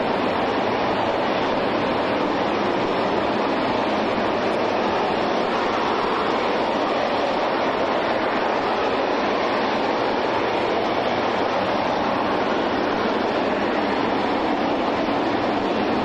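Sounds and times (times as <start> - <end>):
rocket engine roaring: 0.0 - 16.0.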